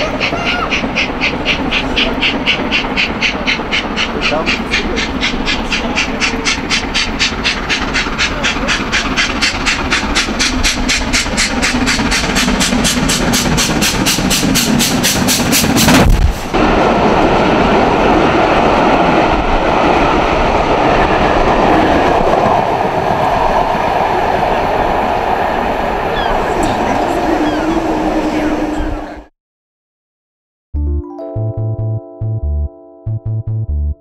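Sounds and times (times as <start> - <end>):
steam locomotive chuffing: 0.0 - 29.3
train coaches rumbling past: 0.0 - 29.3.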